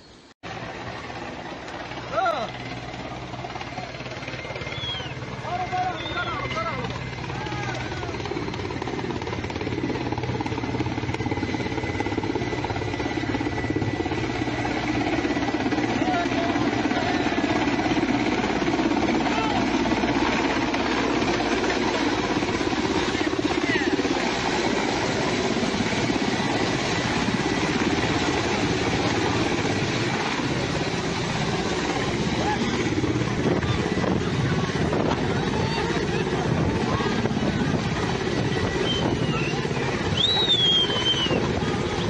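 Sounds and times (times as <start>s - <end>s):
helicopter rotor flutter: 0.0s - 42.0s.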